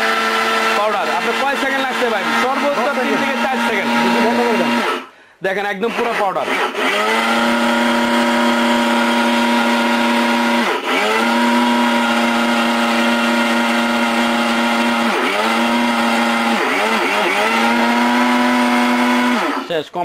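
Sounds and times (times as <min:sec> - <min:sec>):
mixer grinder motor humming: 0:00.0 - 0:05.1, 0:05.8 - 0:19.8.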